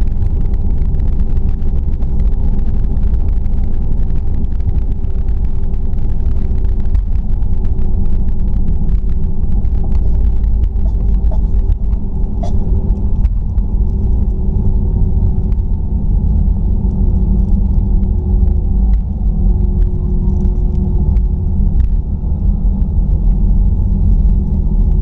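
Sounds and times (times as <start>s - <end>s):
jet engines rumbling: 0.0s - 25.0s
steady hum: 0.0s - 25.0s.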